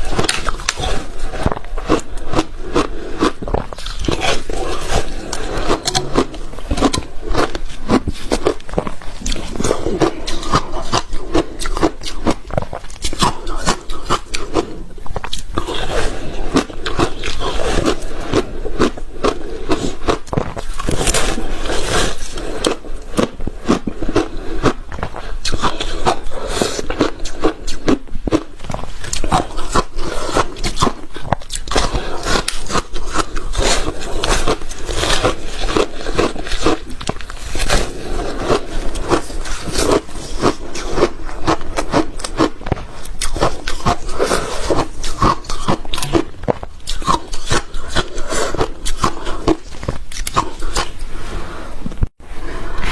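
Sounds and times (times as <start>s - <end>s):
ice being chewed: 0.0s - 51.0s.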